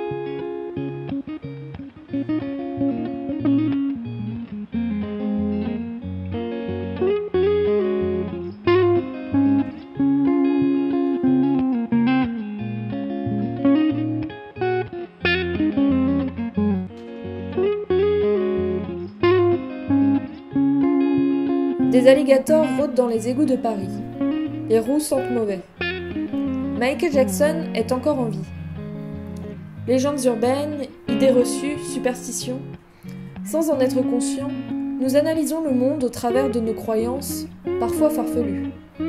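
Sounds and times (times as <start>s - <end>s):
guitar-led instrumental music: 0.0s - 39.0s.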